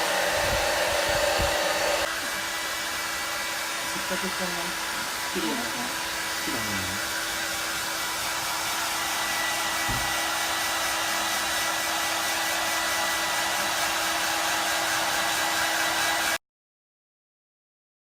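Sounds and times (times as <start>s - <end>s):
hair dryer blowing: 0.0s - 16.4s.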